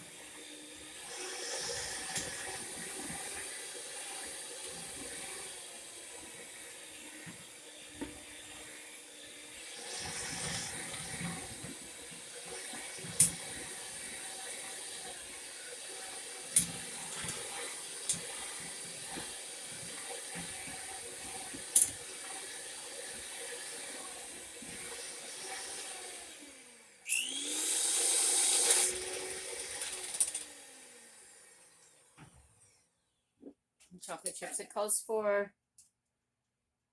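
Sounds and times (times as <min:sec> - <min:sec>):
electric mixer running: 0:00.0 - 0:32.2.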